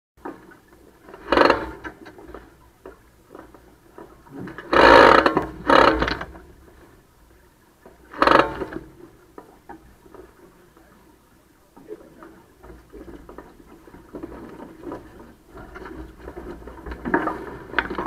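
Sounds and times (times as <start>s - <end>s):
water splashing against boat bow: 0.2s - 18.0s.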